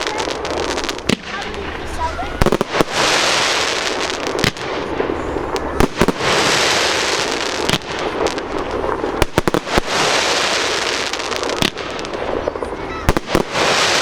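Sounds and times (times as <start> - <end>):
fireworks bangs: 0.0 - 14.0
fireworks hissing crackle: 0.0 - 14.0.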